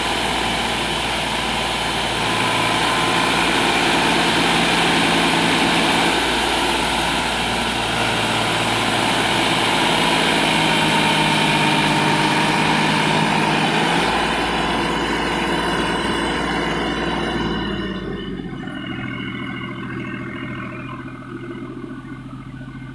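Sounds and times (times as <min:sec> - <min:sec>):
tractor diesel engine straining: 0:00.0 - 0:22.9.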